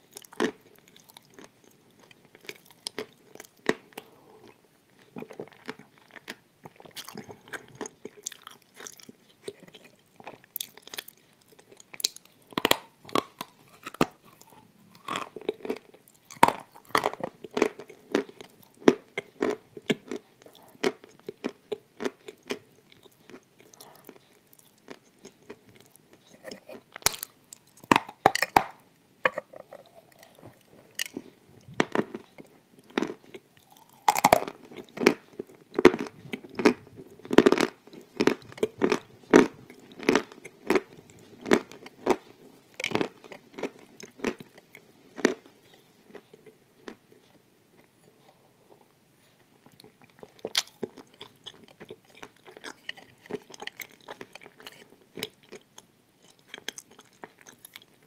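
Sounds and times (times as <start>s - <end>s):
wafers being bitten and chewed: 0.0s - 58.0s.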